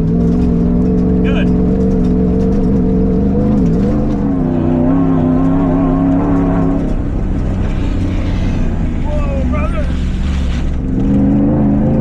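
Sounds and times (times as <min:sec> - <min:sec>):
truck engine running hard: 0:00.0 - 0:12.0.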